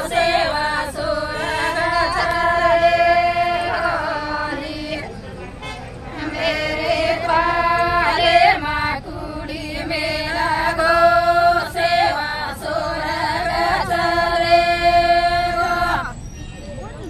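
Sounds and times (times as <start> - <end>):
group of women singing: 0.0 - 5.2, 6.0 - 16.2.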